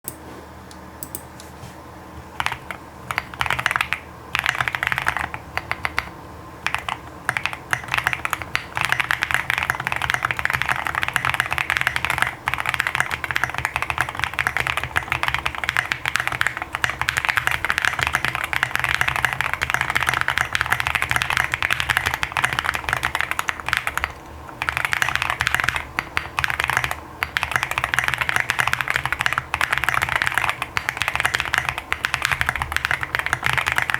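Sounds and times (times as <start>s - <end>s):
mechanical keyboard typing: 2.4s - 33.9s.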